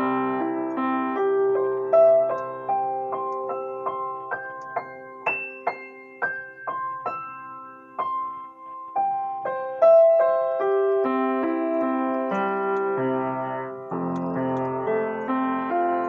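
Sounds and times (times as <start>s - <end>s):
piano played slowly: 0.0s - 16.0s.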